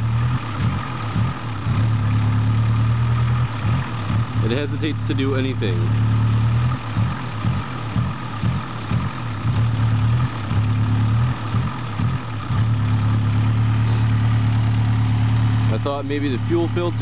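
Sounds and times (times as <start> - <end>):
car engine stumbling and idling: 0.0 - 17.0.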